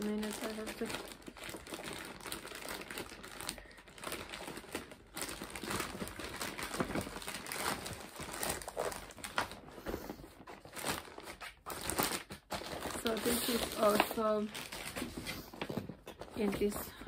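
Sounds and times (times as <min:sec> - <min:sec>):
packaging crinkling: 0:00.0 - 0:16.8.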